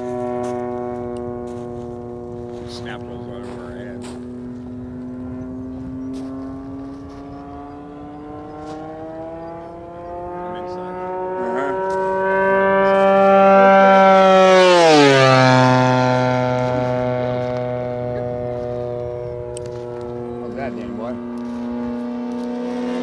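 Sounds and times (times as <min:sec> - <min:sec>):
model plane engine at high power: 0:00.0 - 0:23.0.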